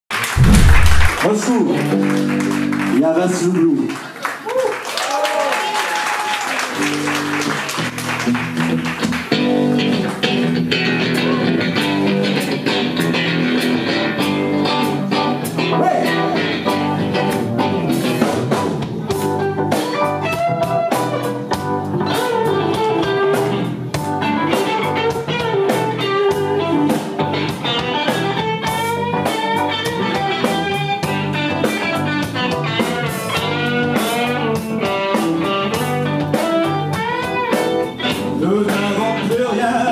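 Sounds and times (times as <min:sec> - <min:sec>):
rock band playing: 0:00.1 - 0:03.0, 0:06.6 - 0:39.9
electric guitar lead: 0:06.7 - 0:39.4.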